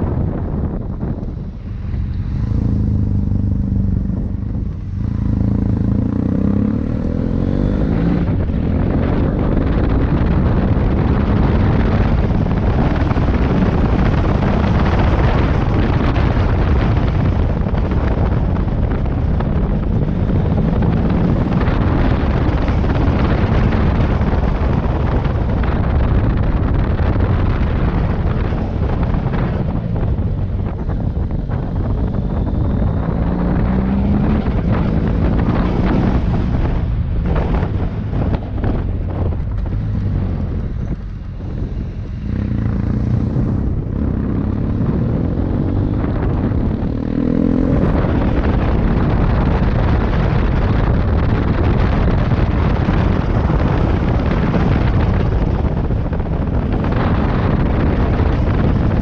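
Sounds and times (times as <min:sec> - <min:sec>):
motorcycle engine: 0:00.0 - 0:59.0
wind rushing over microphone: 0:00.0 - 0:59.0.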